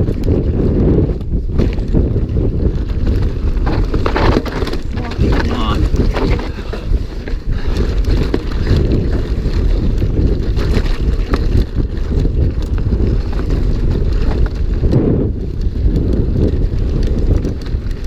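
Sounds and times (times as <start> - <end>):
bike rattling over rough trail: 0.0 - 18.0
wind buffeting microphone: 0.0 - 18.0.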